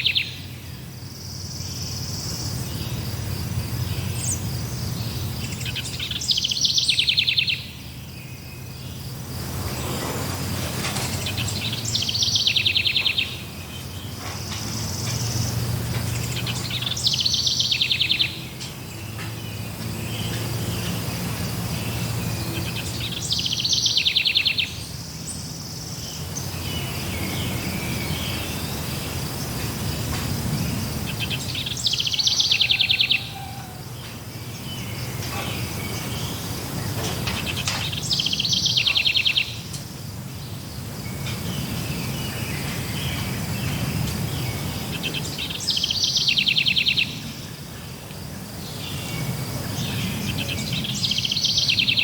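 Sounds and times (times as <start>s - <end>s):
songbird trilled song: 0.0s - 52.0s.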